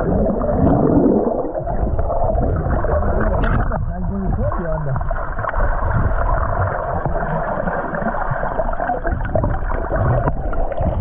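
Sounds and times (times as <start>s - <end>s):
muffled underwater rushing water: 0.0s - 11.0s.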